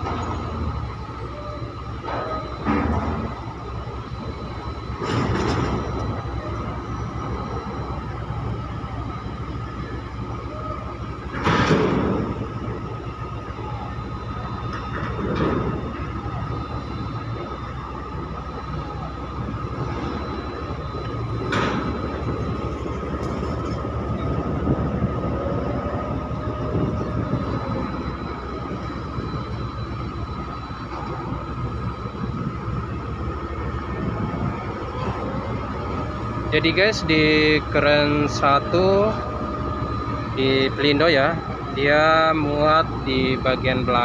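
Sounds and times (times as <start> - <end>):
crane machinery droning: 0.0 - 44.0
high whine: 0.0 - 44.0.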